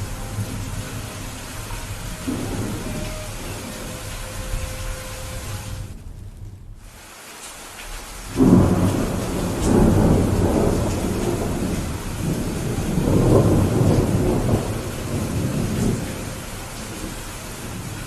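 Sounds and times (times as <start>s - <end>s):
thunder rumbling: 0.0s - 6.9s, 8.2s - 18.0s
steady rain: 0.0s - 18.0s.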